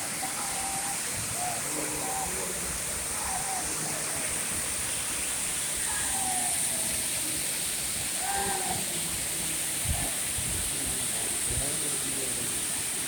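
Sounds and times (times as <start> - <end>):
waterfall hissing: 0.0 - 13.0.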